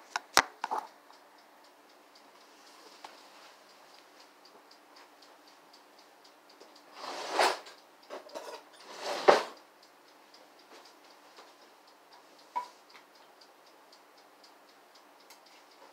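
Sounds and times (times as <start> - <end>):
faint mechanical ticking: 0.0 - 15.9.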